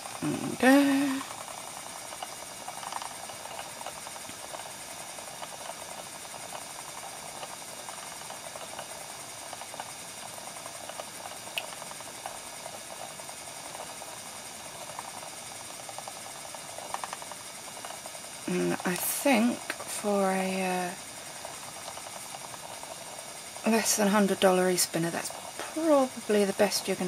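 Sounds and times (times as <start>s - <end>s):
faint irregular ticking: 0.0s - 27.0s
spinning wheel motor whirring: 0.0s - 27.0s.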